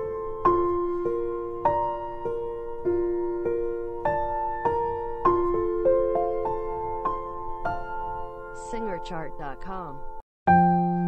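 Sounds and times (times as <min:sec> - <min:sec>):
soft slow piano notes: 0:00.0 - 0:09.3, 0:10.0 - 0:11.0.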